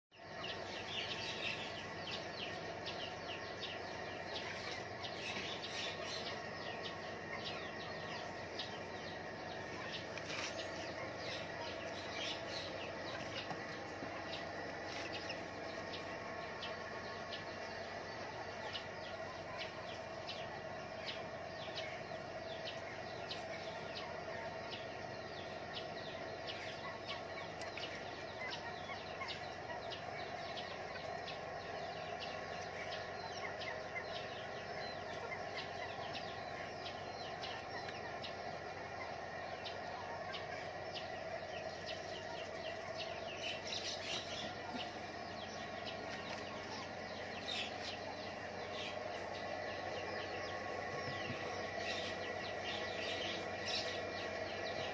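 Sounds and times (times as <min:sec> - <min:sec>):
birds chirping and calling: 0:00.1 - 0:54.9
steady background hum: 0:00.1 - 0:54.9.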